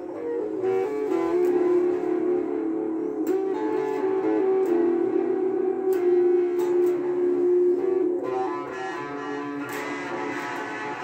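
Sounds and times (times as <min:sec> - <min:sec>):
electric guitar ringing notes: 0:00.0 - 0:11.0.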